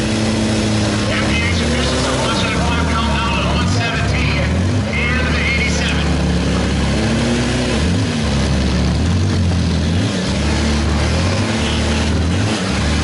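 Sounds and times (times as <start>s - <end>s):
car engines droning: 0.0s - 13.0s.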